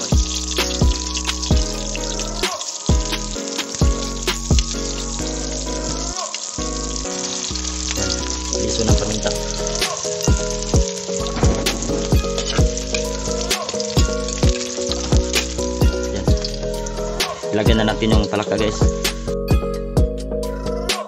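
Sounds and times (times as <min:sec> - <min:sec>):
background music with beat: 0:00.0 - 0:07.3, 0:07.9 - 0:21.0
garlic sizzling in oil: 0:00.0 - 0:19.2.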